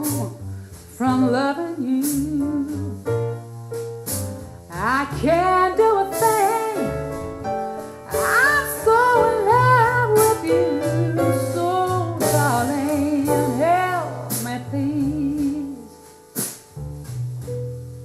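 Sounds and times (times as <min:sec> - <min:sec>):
woman singing jazz ballad: 0:00.0 - 0:03.4, 0:04.7 - 0:16.2
slow accompaniment: 0:00.0 - 0:18.0.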